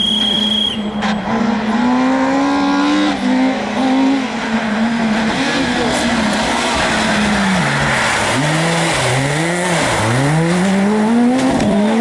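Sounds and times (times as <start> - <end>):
rally car engine revving: 0.9 - 12.0.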